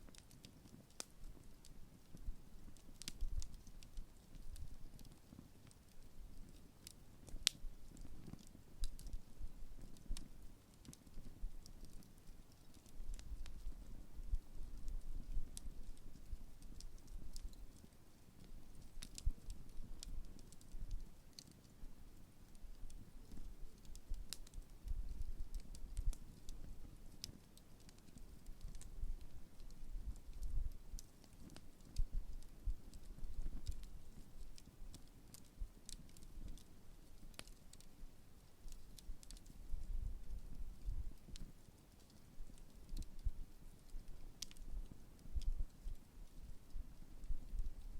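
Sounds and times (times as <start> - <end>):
campfire crackling and popping: 0.0 - 47.9
low fire rumble: 0.0 - 47.9.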